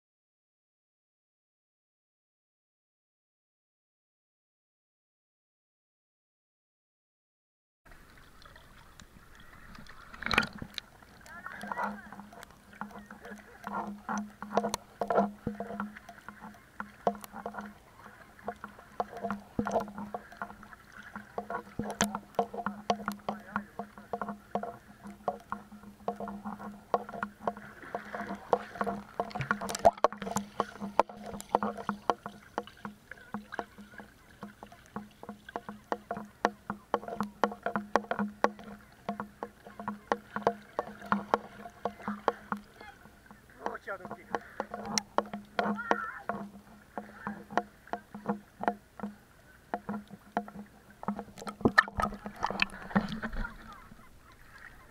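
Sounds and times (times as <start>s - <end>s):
boat motor humming: 7.9s - 54.9s.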